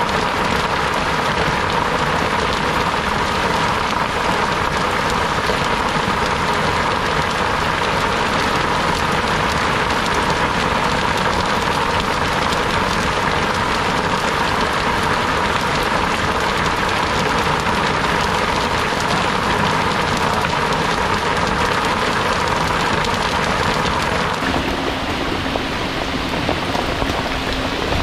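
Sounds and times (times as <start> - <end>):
constant rushing noise: 0.0 - 28.0
engine running steadily: 0.0 - 28.0.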